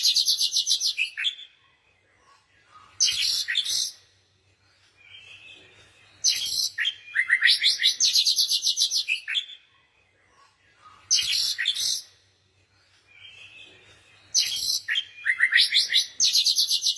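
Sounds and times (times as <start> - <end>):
songbirds chirping: 0.0 - 16.9.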